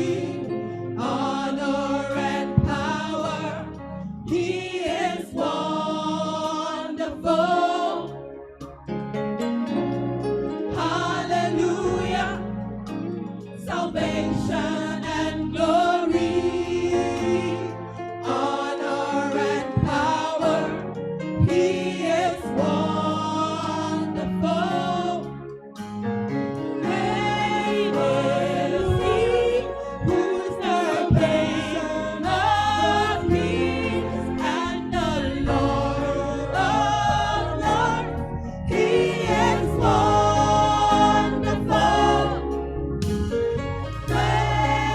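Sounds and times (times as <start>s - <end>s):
choir singing a hymn: 0.0s - 8.5s, 9.7s - 25.6s, 26.6s - 44.9s.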